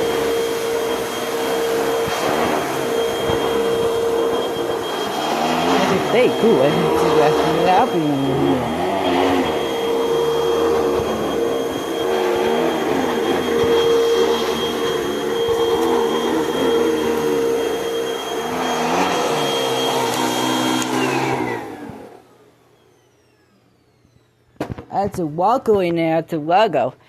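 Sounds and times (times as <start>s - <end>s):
vacuum cleaner whining: 0.0s - 25.6s.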